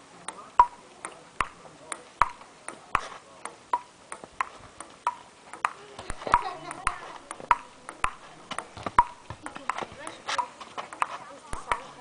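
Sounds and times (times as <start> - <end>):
ping-pong ball clicks: 0.2 - 12.0.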